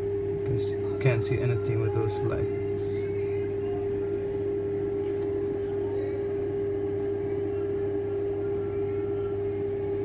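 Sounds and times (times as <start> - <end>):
fan humming: 0.0 - 10.0.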